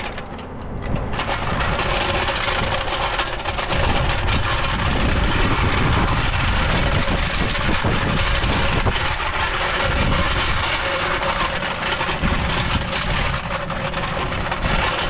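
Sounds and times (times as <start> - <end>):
engine idling: 0.0 - 15.0
floor jack wheels rattling on asphalt: 0.0 - 15.0.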